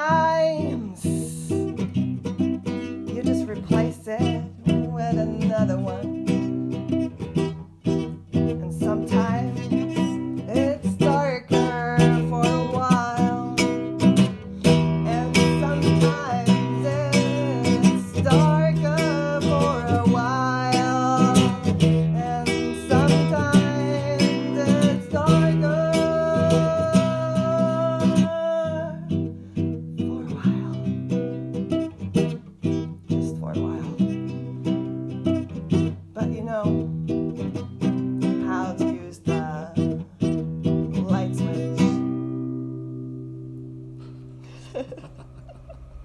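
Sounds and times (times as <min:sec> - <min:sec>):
acoustic guitar music: 0:00.0 - 0:46.0.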